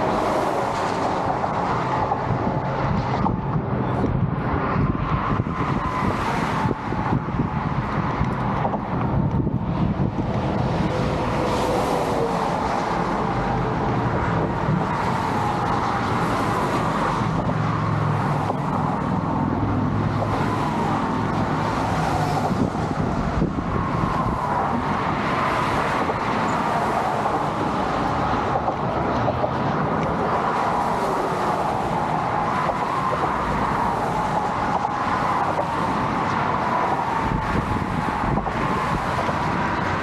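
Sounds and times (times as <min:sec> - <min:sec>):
vehicle road noise: 0:00.0 - 0:40.0.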